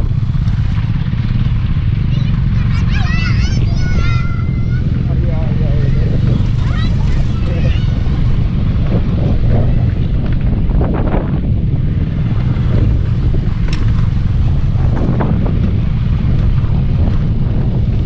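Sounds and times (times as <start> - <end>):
motorcycle engine rumble: 0.0 - 18.0
wind buffeting microphone: 0.0 - 18.0.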